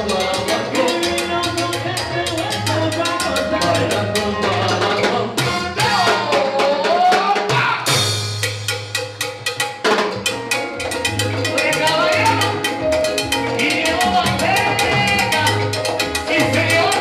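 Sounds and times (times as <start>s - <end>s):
bending melody line: 0.0s - 7.0s, 7.9s - 17.0s
repeating bass line: 0.0s - 7.0s, 7.9s - 17.0s
hand percussion and drums: 0.0s - 17.0s.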